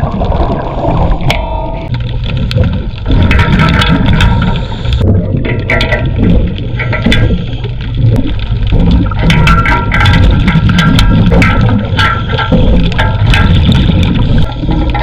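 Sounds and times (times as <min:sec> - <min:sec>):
underwater bubbling and rushing: 0:00.0 - 0:15.0
sharp clicks and knocks: 0:01.2 - 0:15.0.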